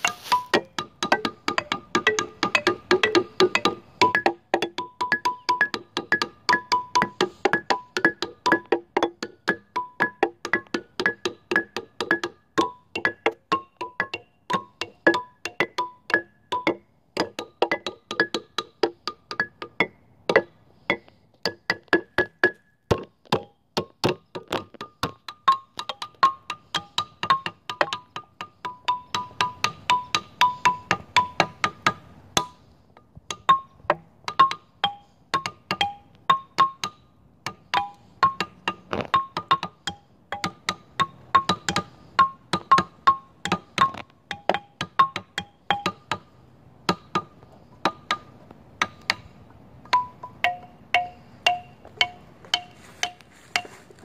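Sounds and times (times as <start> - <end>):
xylophone struck with mallets: 0.0 - 32.6, 33.3 - 46.3, 49.8 - 54.0.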